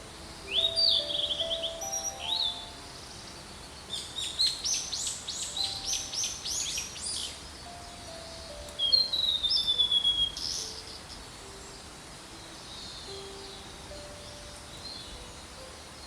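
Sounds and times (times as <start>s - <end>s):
bird singing whistled notes: 0.0s - 16.0s.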